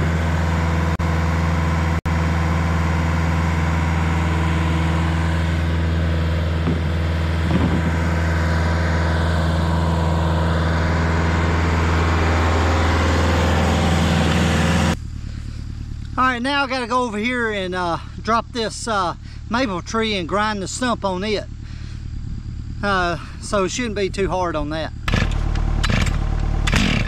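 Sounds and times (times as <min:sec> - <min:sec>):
stump grinder engine running: 0:00.0 - 0:23.6, 0:24.9 - 0:27.0.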